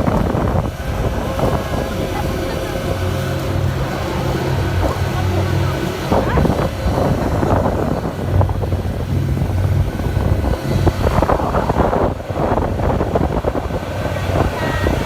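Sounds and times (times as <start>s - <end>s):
boat engine humming: 0.0s - 15.0s
wind buffeting microphone: 0.0s - 15.0s.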